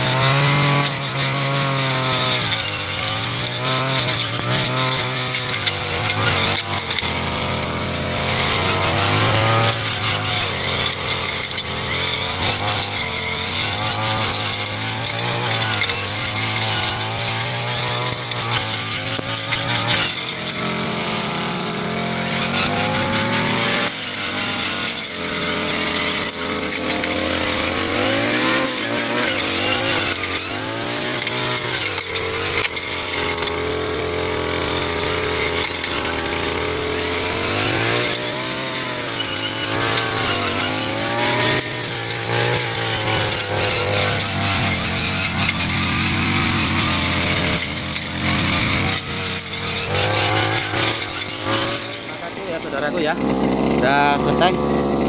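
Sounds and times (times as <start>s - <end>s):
brush cutter engine revving: 0.0s - 55.0s.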